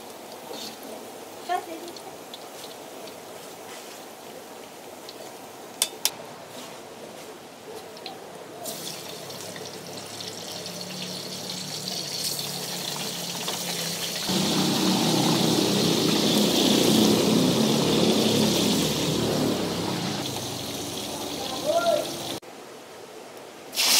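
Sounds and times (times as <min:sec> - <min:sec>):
oil sizzling in a wok: 0:00.0 - 0:06.1, 0:08.6 - 0:22.4.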